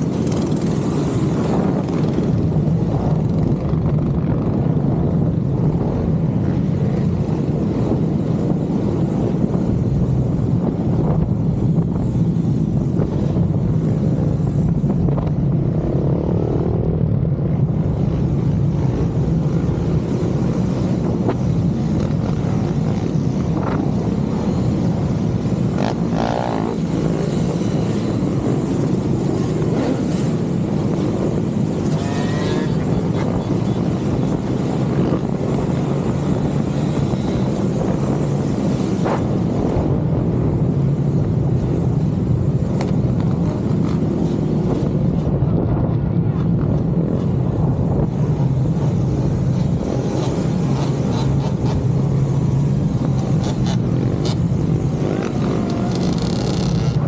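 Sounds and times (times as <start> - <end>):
motorcycle engine cruising: 0.0 - 45.4, 46.2 - 57.0
wind rush over microphone: 0.0 - 57.0.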